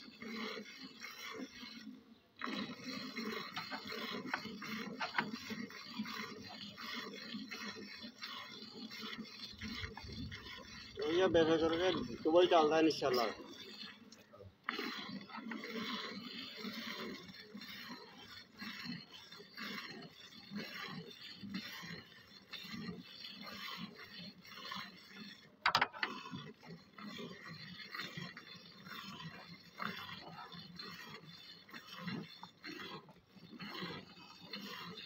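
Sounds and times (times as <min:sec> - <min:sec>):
milk squirting into steel bucket: 0:00.0 - 0:35.0.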